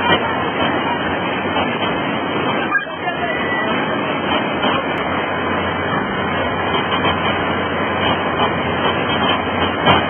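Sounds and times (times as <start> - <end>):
river rapids rushing: 0.0 - 10.0.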